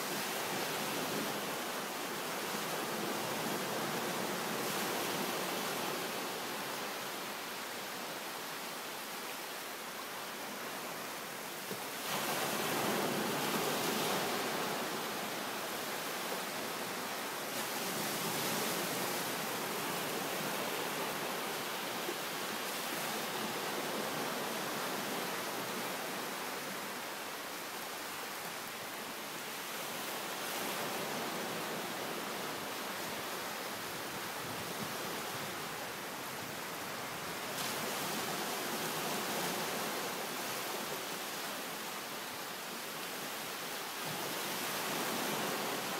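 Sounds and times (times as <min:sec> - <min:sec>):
waves washing up a sand beach: 0:00.0 - 0:45.9.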